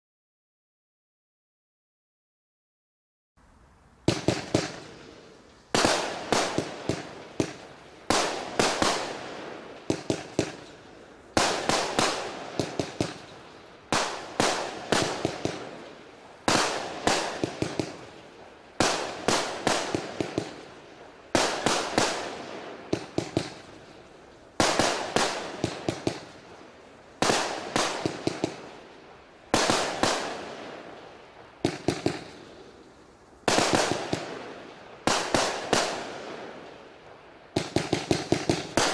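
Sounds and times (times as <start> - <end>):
fireworks cake firing shots: 4.1 - 26.6, 27.2 - 36.8, 37.5 - 38.9.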